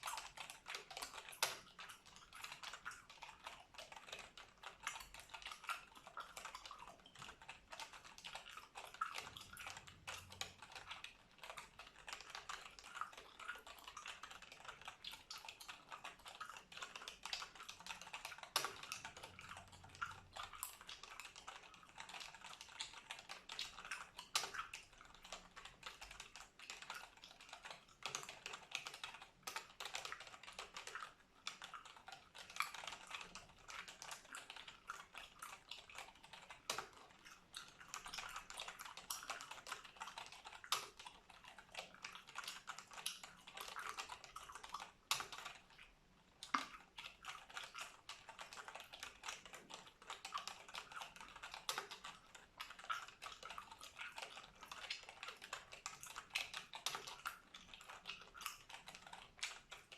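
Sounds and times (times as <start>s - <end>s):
computer keyboard typing: 0.0s - 45.8s, 46.4s - 59.9s
gum chewing: 0.0s - 59.9s.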